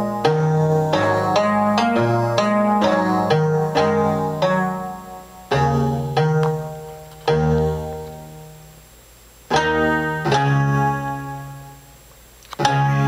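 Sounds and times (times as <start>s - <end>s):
electronic keyboard chords: 0.0s - 13.0s.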